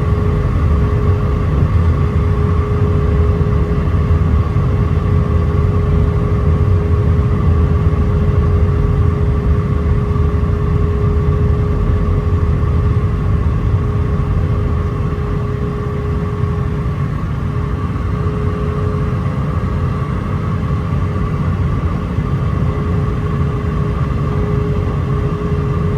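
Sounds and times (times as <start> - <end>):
airplane cabin rumble: 0.0 - 25.9
constant hum: 0.0 - 25.9.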